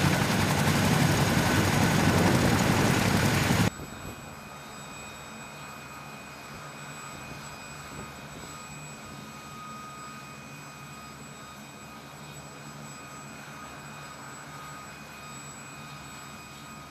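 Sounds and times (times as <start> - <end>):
helicopter turbines idling: 0.0 - 16.9.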